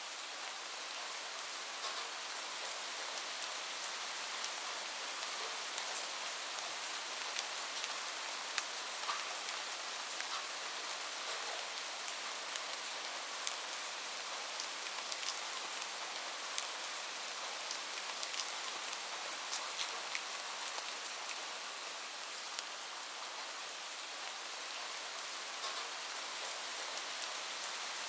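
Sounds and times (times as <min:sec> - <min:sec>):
rain falling on a roof: 0:00.0 - 0:28.0.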